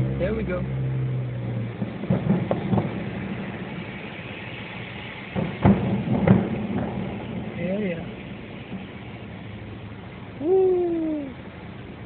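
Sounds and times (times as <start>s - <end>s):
traffic rumble: 0.0s - 12.0s
distant fireworks thuds: 0.2s - 10.4s.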